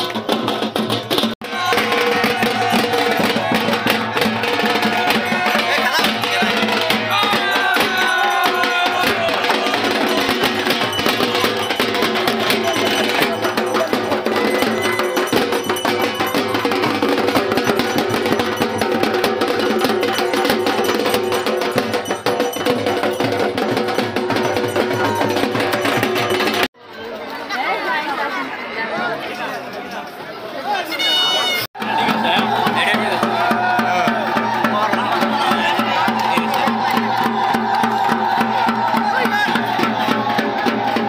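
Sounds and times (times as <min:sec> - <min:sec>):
clacking percussion: 0:00.0 - 0:26.7, 0:31.7 - 0:41.0
loud festival music: 0:00.0 - 0:26.7, 0:30.8 - 0:41.0
fast dense drumming: 0:00.1 - 0:26.7, 0:31.8 - 0:41.0.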